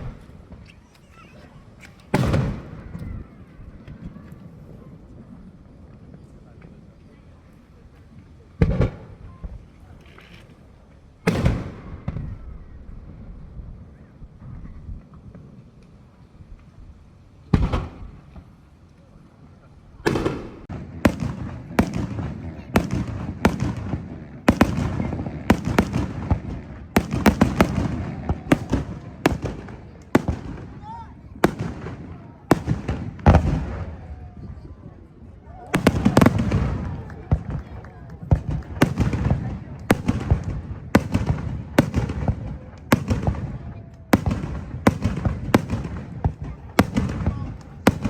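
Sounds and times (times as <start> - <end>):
fireworks bursting with sharp bangs: 0.0 - 7.2, 7.8 - 16.8, 17.4 - 18.8, 20.0 - 48.0.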